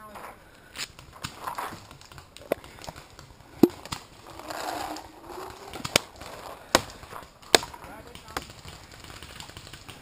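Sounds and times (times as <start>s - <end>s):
sharp cracks: 0.8s - 10.0s.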